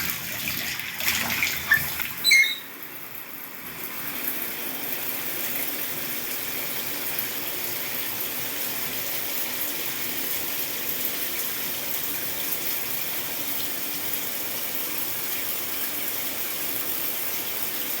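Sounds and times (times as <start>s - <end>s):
shower water spraying: 0.0s - 18.0s.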